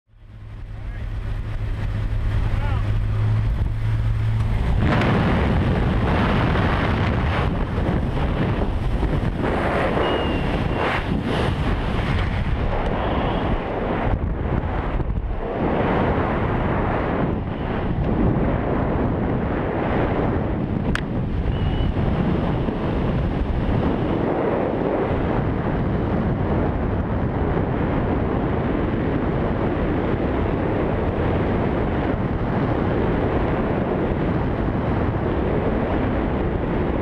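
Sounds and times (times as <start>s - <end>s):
strong wind rushing over microphone: 0.1s - 37.0s.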